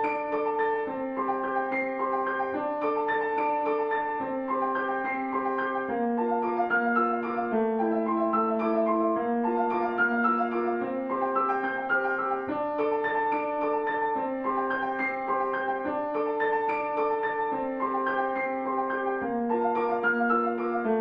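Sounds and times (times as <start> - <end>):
piano playing held chords: 0.0 - 21.0.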